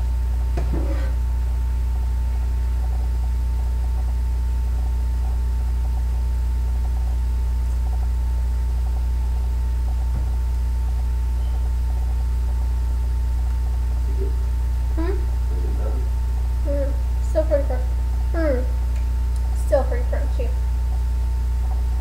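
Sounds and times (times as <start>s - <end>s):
loud low hum: 0.0s - 22.0s.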